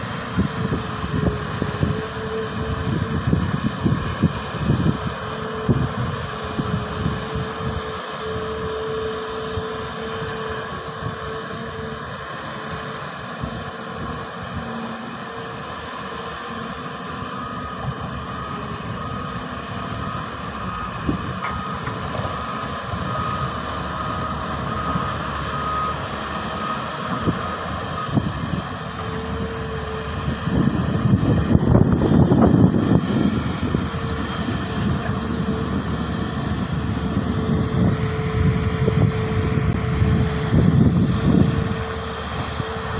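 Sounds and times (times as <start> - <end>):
excavator engine and hydraulics: 0.0 - 42.9.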